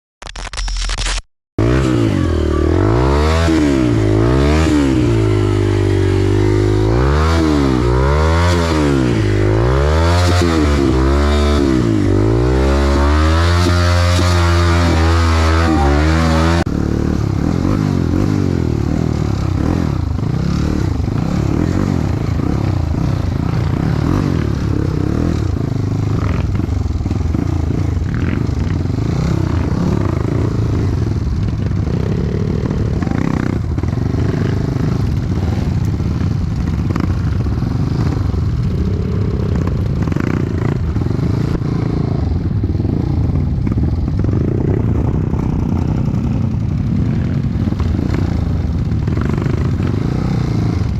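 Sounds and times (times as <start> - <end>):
dirt bike engine running: 1.6 - 50.9.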